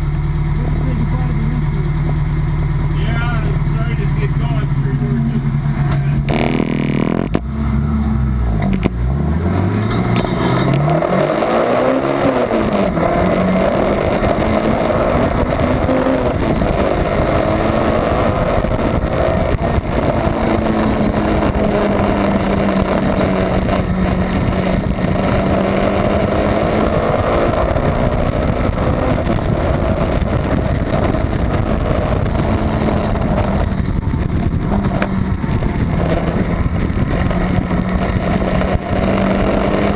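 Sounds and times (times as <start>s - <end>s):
wind and road noise: 0.0s - 39.9s
car engine revving hard: 2.9s - 39.9s.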